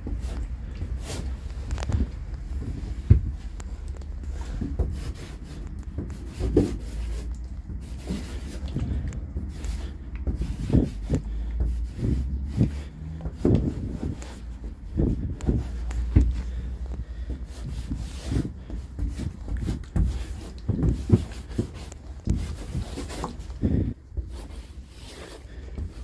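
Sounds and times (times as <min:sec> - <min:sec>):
low handling rumble: 0:00.0 - 0:26.0.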